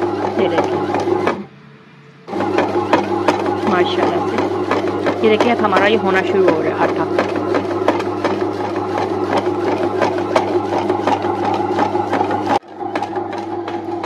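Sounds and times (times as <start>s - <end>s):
bread maker motor humming: 0.0s - 1.5s, 2.3s - 14.0s
dough paddle knocking: 0.0s - 1.5s, 2.3s - 14.0s.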